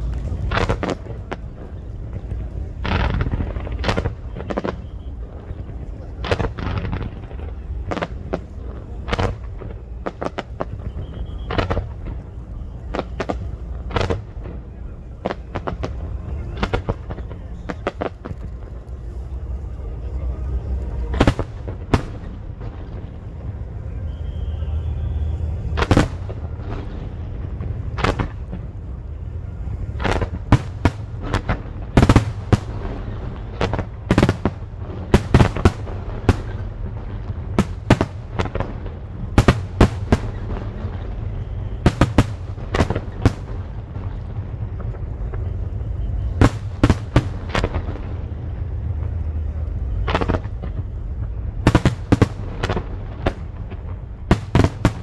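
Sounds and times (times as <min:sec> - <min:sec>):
fireworks bangs: 0:00.0 - 0:55.0
low rumble: 0:00.0 - 0:55.0.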